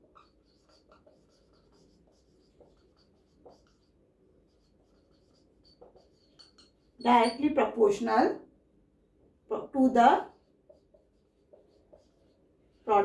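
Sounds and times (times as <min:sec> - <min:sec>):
marker scratching on whiteboard: 0:00.0 - 0:07.5, 0:09.7 - 0:13.0.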